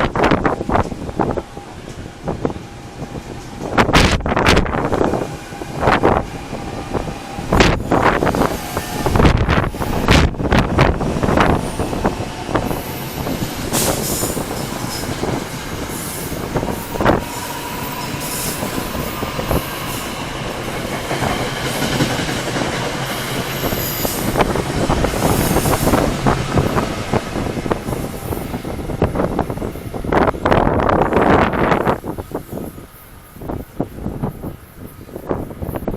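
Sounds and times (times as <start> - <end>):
train wheels rushing on rails: 0.0 - 35.9.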